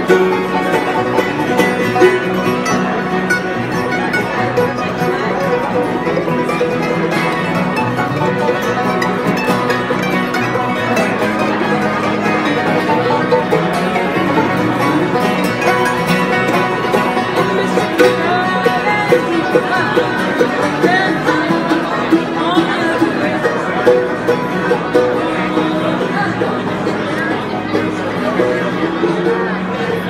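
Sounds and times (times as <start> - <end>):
bluegrass mandolin and banjos: 0.0 - 30.0.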